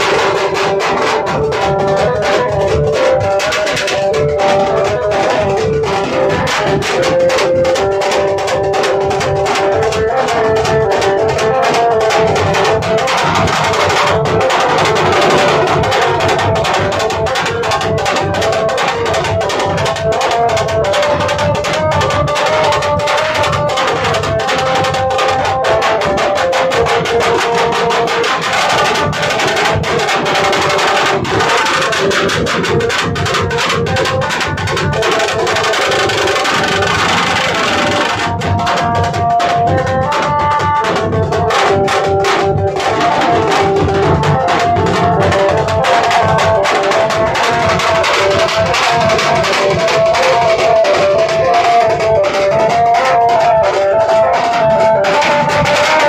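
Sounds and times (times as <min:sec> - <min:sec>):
large drums beaten fast: 0:00.0 - 0:56.0
melody over drumming: 0:00.0 - 0:56.0.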